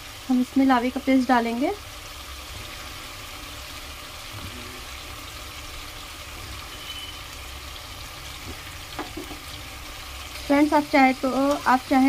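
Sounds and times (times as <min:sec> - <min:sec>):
masala sizzling in hot oil: 0:00.0 - 0:12.0.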